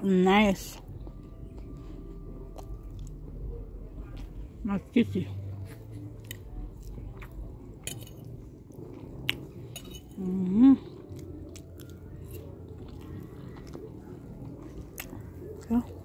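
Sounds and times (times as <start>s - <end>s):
person chewing: 0.8s - 4.6s, 5.3s - 16.0s.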